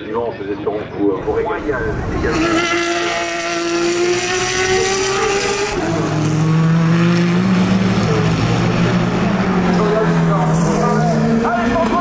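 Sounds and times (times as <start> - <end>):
race cars passing: 1.2 - 12.0.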